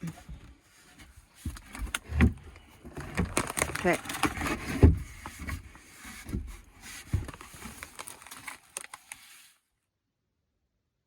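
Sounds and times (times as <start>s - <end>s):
rustling and crinkling: 0.0s - 9.6s.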